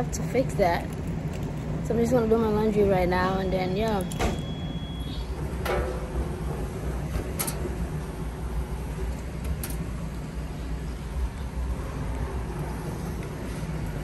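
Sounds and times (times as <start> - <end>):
laundry machines rumbling: 0.0 - 14.0.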